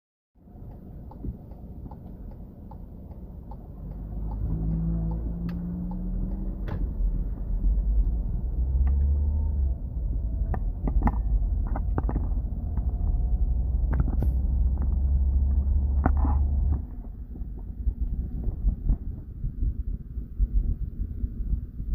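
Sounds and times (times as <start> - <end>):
car engine and road rumble: 0.4 - 21.9.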